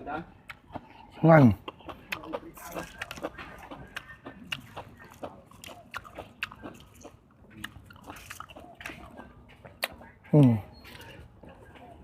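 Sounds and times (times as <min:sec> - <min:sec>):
person chewing with mouth smacks: 0:00.4 - 0:12.0.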